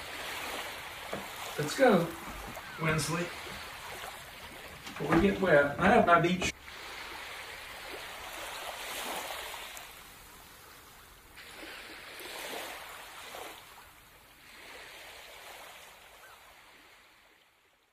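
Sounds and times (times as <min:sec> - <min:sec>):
waves washing in and drawing back: 0:00.0 - 0:17.9.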